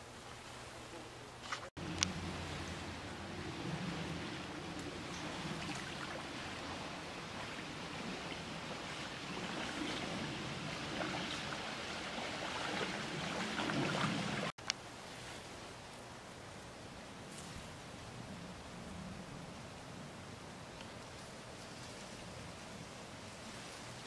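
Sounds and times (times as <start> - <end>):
steady wind: 0.0 - 24.0
waves lapping on shore: 0.0 - 24.0.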